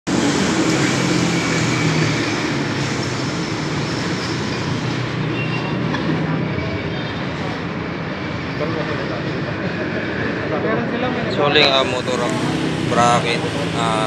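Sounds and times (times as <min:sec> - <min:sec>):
passing train rumble: 0:00.1 - 0:14.0.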